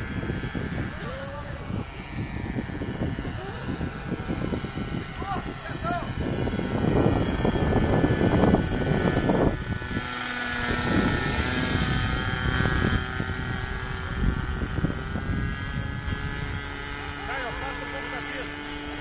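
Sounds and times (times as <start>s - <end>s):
model airplane motor drone: 0.0s - 19.0s.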